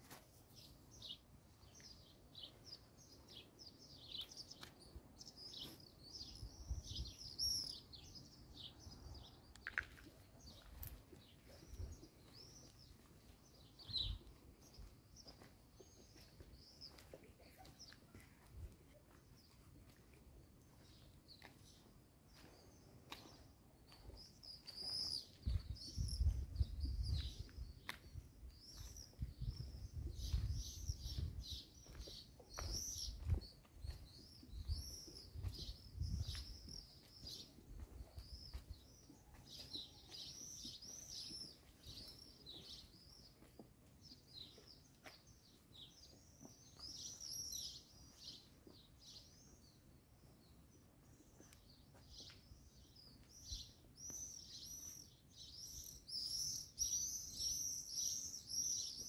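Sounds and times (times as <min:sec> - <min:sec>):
small birds chirping: 0:00.1 - 0:59.0.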